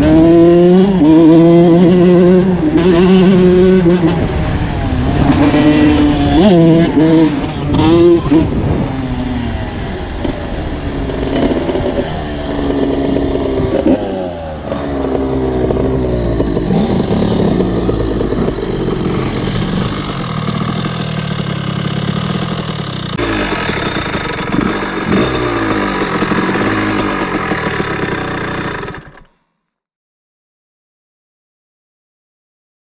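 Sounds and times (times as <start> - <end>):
motocross bike engine revving: 0.0 - 9.4, 10.1 - 29.4.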